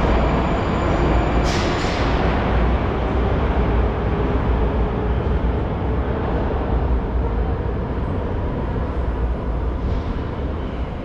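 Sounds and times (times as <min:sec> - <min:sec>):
metro station rumble and hiss: 0:00.0 - 0:11.0.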